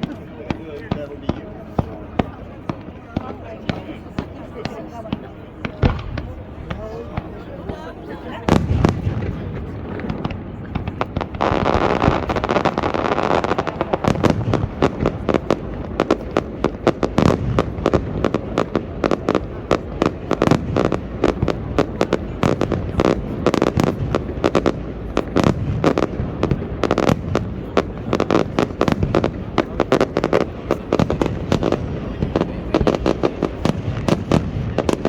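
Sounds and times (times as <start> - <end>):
fireworks bursting and crackling: 0.0 - 35.0.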